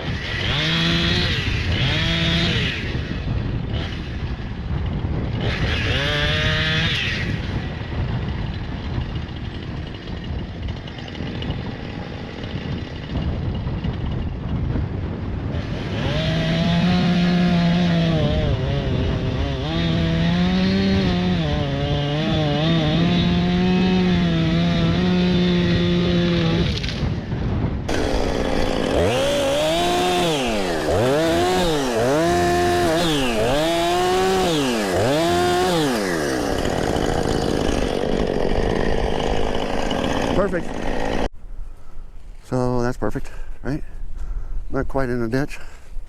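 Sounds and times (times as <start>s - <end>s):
chainsaw cutting a tree: 0.0s - 27.2s, 27.9s - 41.3s
wind noise: 0.0s - 46.0s.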